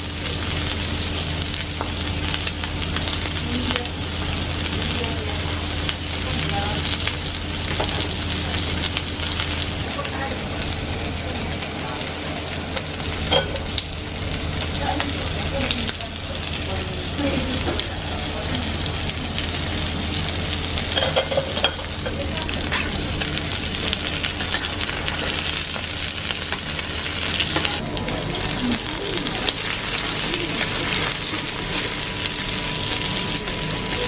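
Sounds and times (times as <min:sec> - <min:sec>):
low background hum: 0:00.0 - 0:34.0
meat sizzling on a grill: 0:00.0 - 0:34.0.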